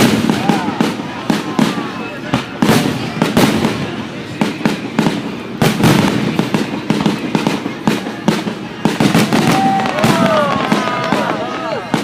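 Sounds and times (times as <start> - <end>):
fireworks bangs and crackling: 0.0 - 12.0
fireworks whistling: 0.0 - 12.0.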